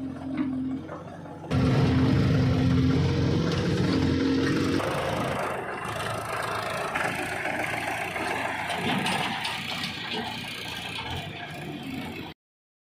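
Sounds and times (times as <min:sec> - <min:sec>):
diesel engine running: 0:00.0 - 0:12.3.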